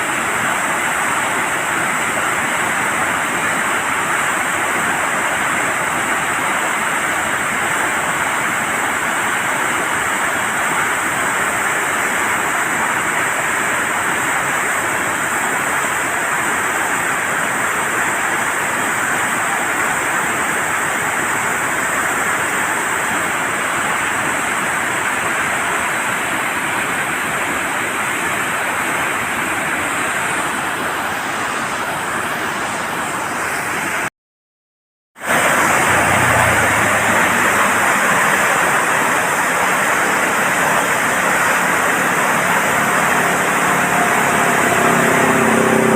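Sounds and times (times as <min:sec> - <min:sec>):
water rushing through floodgate: 0:00.0 - 0:34.1, 0:35.2 - 0:45.9.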